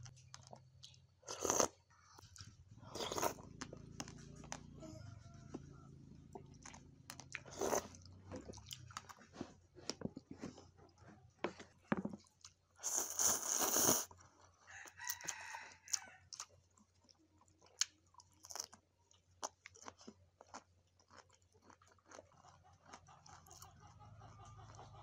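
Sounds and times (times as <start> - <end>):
chewing crisp food: 0.0 - 11.3, 12.2 - 25.0.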